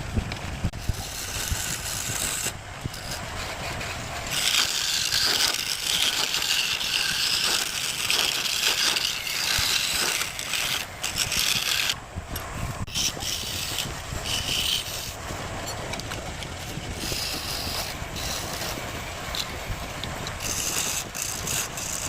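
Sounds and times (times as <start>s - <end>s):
tool rasping on wood: 0.8s - 12.0s, 12.8s - 15.2s, 16.6s - 19.6s, 20.3s - 22.0s.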